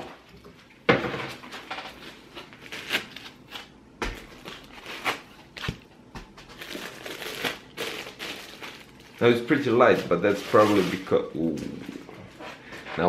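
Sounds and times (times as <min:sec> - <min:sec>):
plastic wrapping crinkling: 0:01.5 - 0:12.7.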